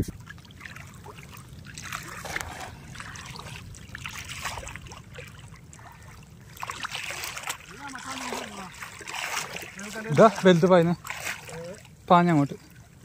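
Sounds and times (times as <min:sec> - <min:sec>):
water splashing from wading: 0:00.0 - 0:13.0.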